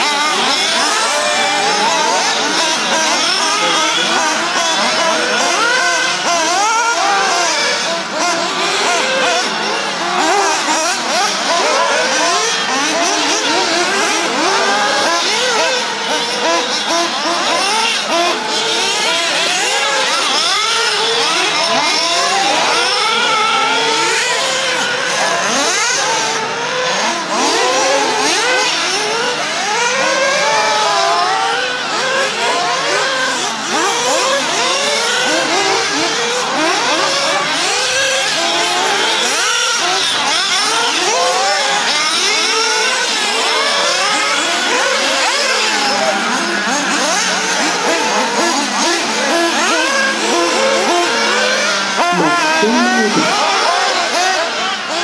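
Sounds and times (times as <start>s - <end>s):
rc buggy engines revving: 0.0s - 55.0s.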